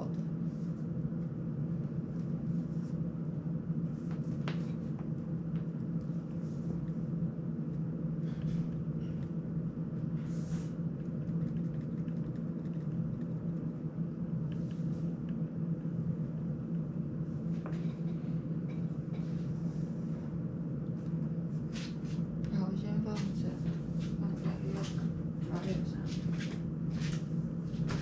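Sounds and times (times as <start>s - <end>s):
electric fan humming: 0.0s - 28.0s.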